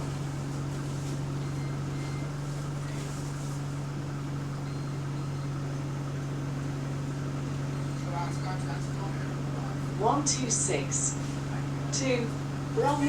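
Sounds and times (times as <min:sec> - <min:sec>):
air conditioning: 0:00.0 - 0:13.0
bus engine running: 0:00.0 - 0:13.0
constant low drone: 0:00.0 - 0:13.0.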